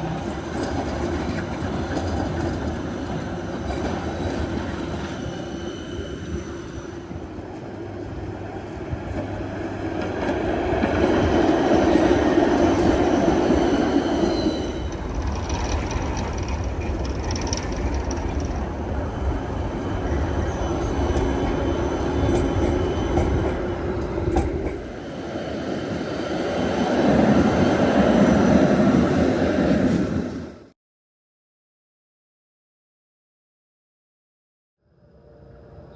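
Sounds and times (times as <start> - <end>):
tram rolling on rails: 0.0 - 30.7.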